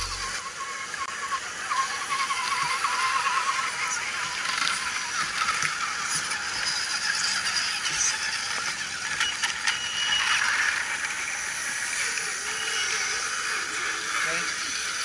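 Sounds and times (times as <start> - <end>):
rc trucks driving over leaves: 0.0 - 15.0.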